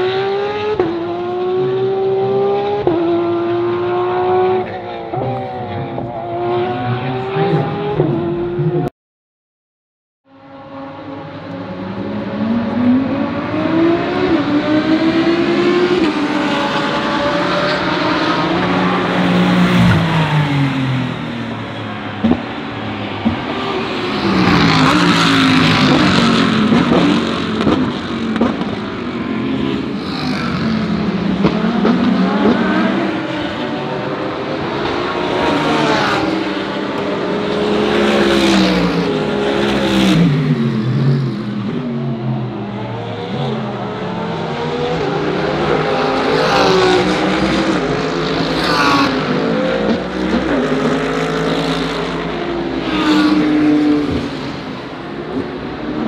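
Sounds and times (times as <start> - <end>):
race car engines revving: 0.0 - 8.9, 10.4 - 56.0.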